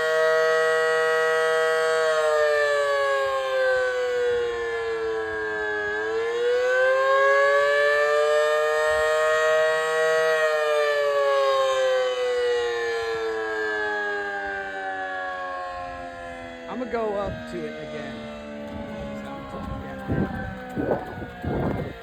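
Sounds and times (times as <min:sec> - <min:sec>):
wailing warning siren: 0:00.0 - 0:22.0.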